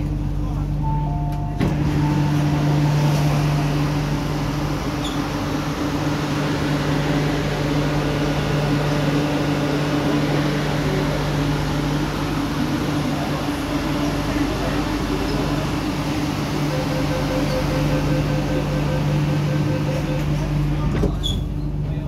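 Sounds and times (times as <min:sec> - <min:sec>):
train cabin hum and drone: 0:00.0 - 0:22.0.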